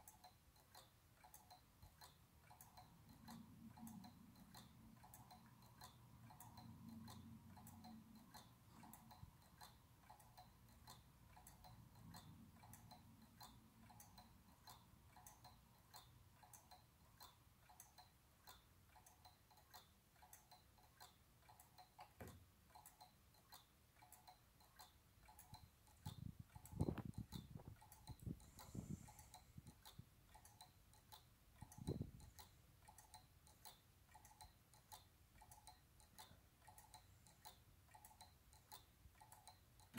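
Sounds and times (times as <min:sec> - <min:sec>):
pendulum clock ticking: 0:00.0 - 0:39.9.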